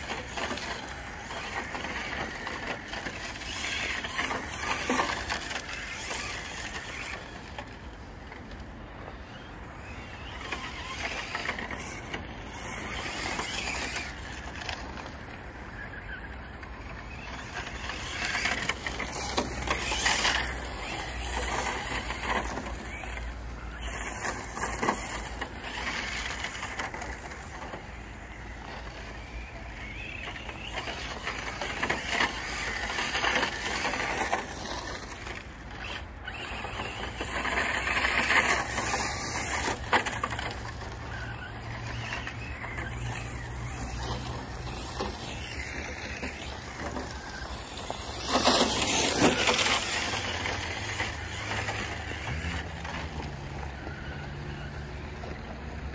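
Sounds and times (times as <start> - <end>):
rc truck driving over gravel: 0.0 - 55.9.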